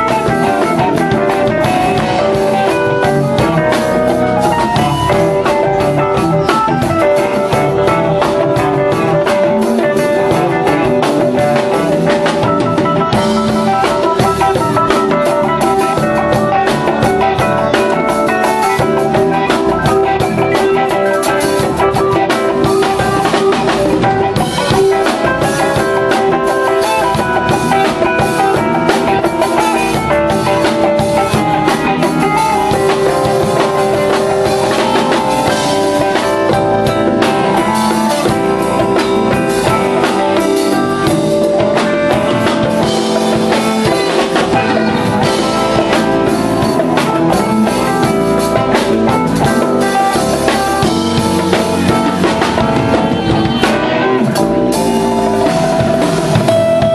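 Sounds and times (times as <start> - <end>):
bass notes: 0.0 - 56.9
drum kit beat: 0.0 - 56.9
guitar: 0.0 - 56.9
sustained keyboard notes: 0.0 - 56.9.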